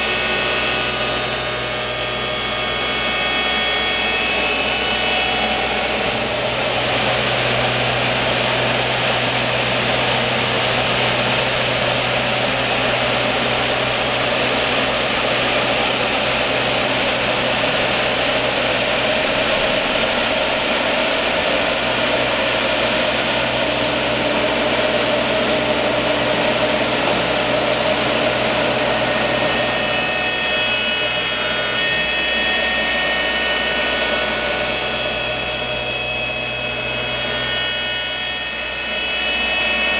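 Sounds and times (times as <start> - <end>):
high whining tones: 0.0 - 39.9
woodworking machine whirring: 0.0 - 39.9.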